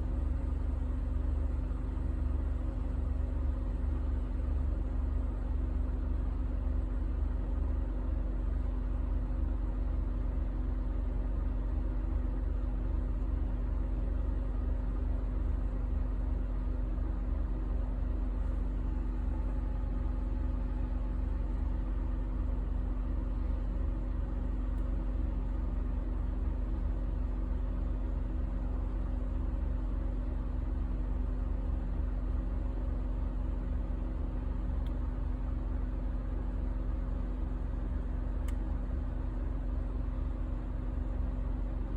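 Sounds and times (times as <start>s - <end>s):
engine idling unevenly: 0.0s - 41.9s.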